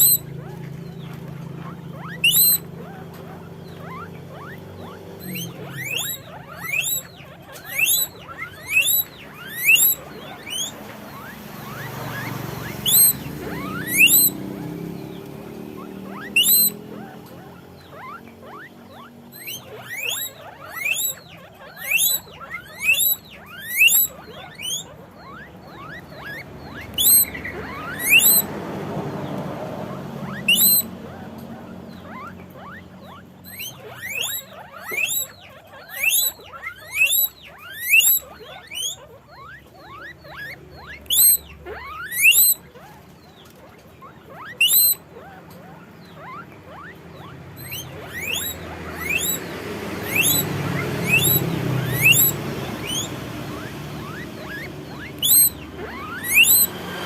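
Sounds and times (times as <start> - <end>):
guinea pigs squealing: 0.0 - 57.0.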